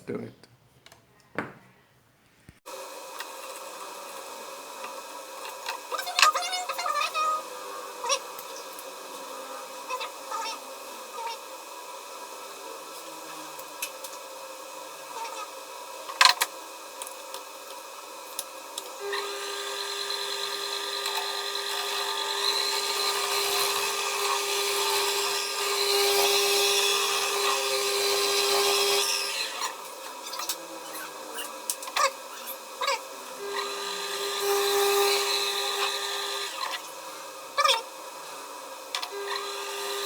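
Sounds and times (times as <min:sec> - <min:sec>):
power tool cutting: 0:02.7 - 0:40.0.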